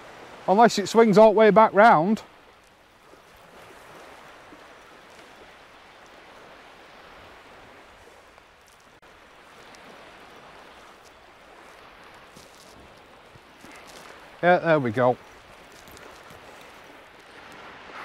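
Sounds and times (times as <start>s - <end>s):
gentle surf on sandy beach: 0.0s - 18.0s.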